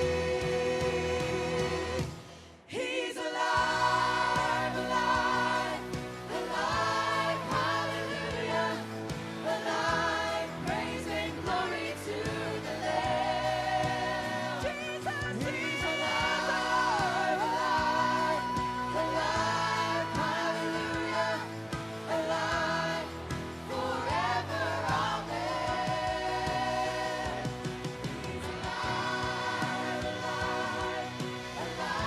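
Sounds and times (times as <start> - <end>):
worship band with group singing: 0.0 - 32.0.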